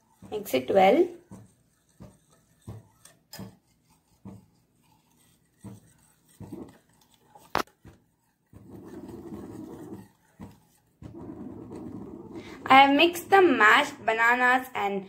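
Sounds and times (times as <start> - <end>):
whisk swishing in mixture: 0.0 - 15.0.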